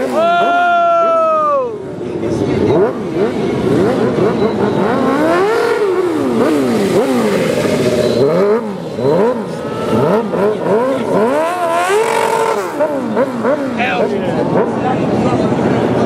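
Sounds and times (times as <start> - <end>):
motorcycle engine revving: 0.0 - 0.4, 2.0 - 16.0.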